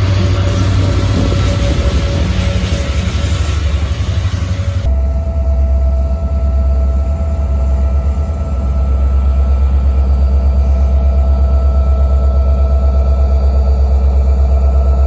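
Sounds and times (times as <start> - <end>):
diesel locomotive engine rumbling: 0.0 - 15.0
faint steady whine: 0.0 - 15.0.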